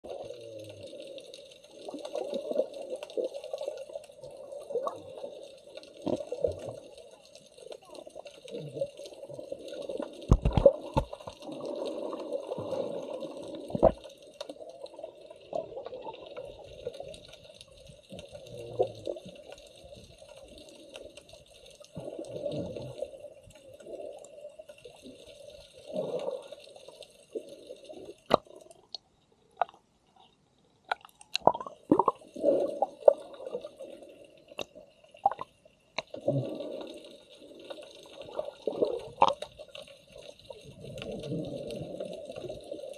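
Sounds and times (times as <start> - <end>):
sea water sloshing and splashing: 0.1 - 28.6, 31.0 - 42.9.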